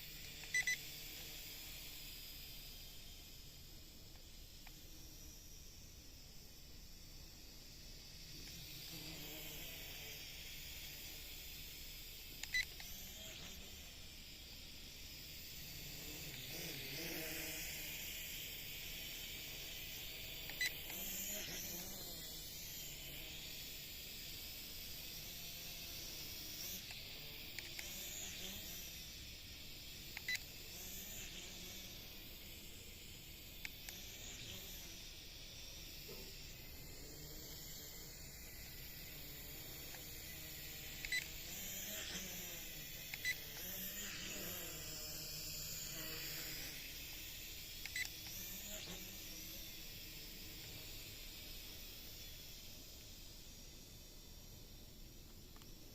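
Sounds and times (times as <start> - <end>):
toy drone propeller whine: 0.0 - 55.9.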